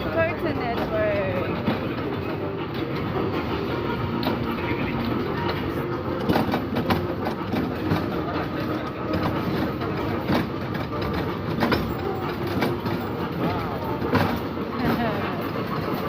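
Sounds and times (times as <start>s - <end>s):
irregular clicks and clacks: 0.0s - 16.0s
ride-on train rumbling: 0.0s - 16.0s.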